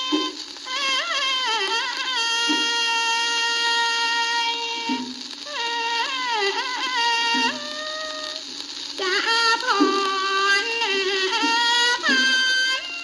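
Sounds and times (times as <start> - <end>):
record surface hiss: 0.0 - 13.0.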